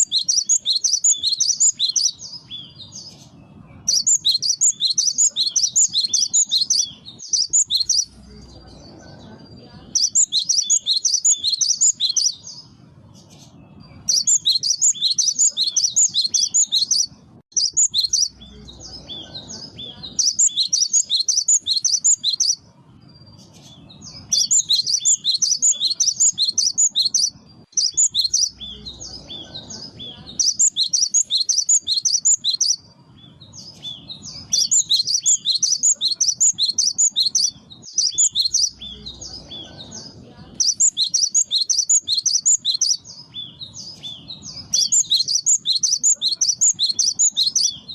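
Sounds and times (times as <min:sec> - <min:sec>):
tit singing high chirps: 0:00.0 - 0:03.1, 0:03.9 - 0:08.2, 0:09.9 - 0:12.6, 0:13.9 - 0:18.6, 0:20.1 - 0:22.6, 0:24.0 - 0:32.9, 0:33.6 - 0:39.8, 0:40.5 - 0:47.9.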